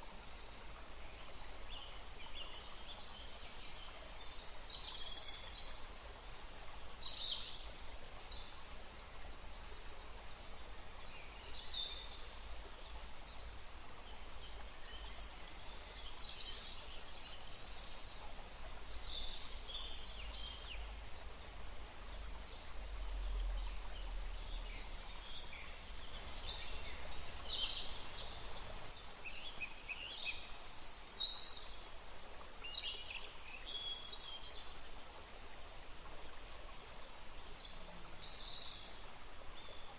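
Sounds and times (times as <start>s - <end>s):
water: 0.0s - 39.9s
wind: 0.0s - 39.9s.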